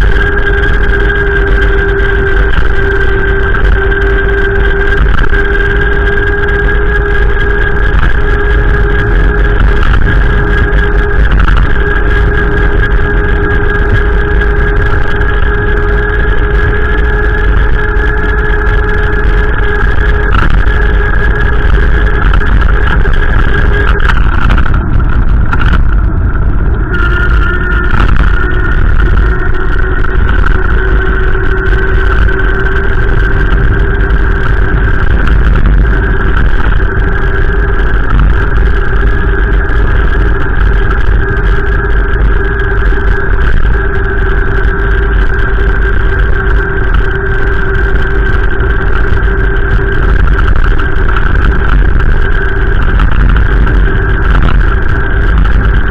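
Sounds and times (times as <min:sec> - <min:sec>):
vehicle drone: 0:00.0 - 0:55.9.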